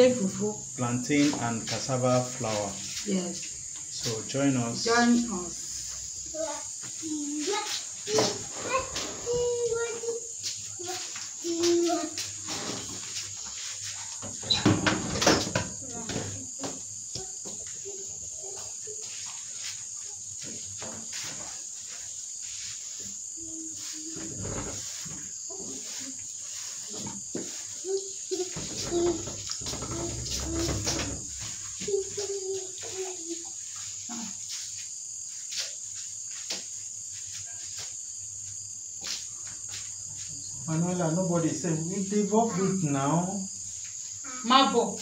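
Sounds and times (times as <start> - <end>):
crickets trilling: 0.0 - 45.0.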